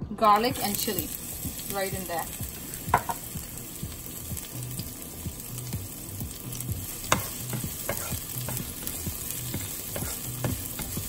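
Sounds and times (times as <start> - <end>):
garlic sizzling in hot oil: 0.1 - 11.0.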